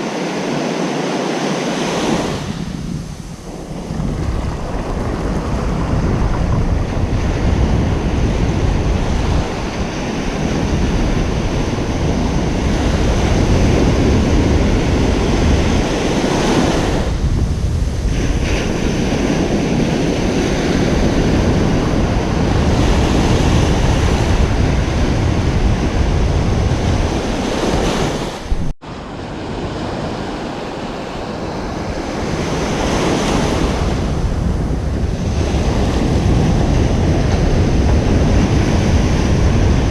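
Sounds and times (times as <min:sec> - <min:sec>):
ocean surf washing onto beach: 0:00.0 - 0:39.9
wind buffeting microphone: 0:00.0 - 0:39.9.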